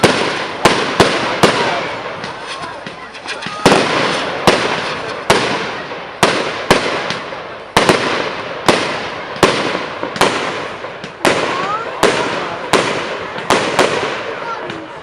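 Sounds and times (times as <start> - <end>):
firework bangs: 0.0 - 15.0
firework hissing crackle: 0.0 - 15.0.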